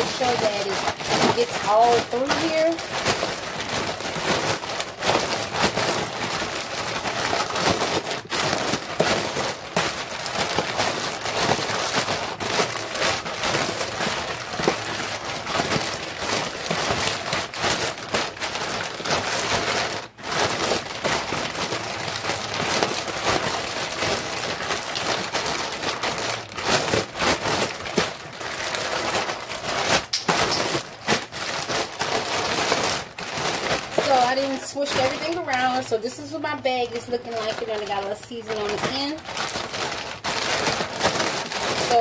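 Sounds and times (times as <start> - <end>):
plastic bag crinkling: 0.0 - 42.0.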